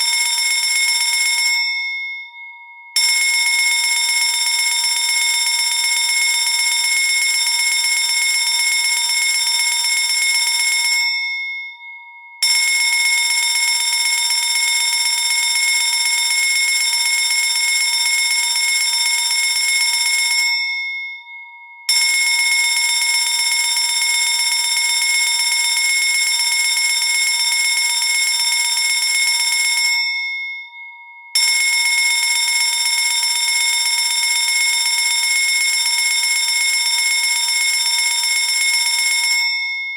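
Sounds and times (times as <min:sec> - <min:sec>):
fire alarm bell ringing: 0:00.0 - 0:39.9.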